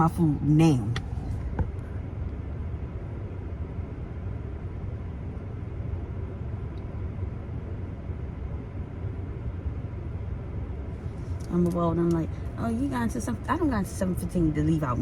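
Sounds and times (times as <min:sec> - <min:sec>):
car engine and cabin rumble: 0:00.0 - 0:15.0.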